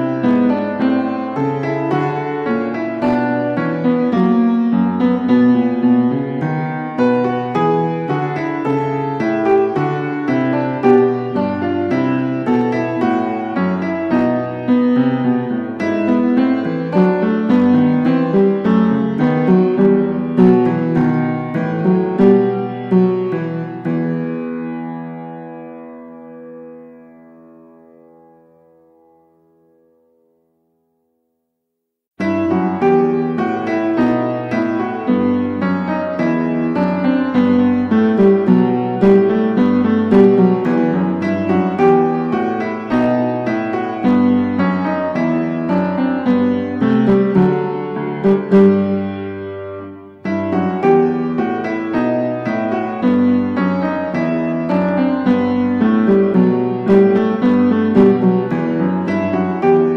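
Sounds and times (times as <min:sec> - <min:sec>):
keyboard melody: 0:00.0 - 0:30.5, 0:32.2 - 0:59.9.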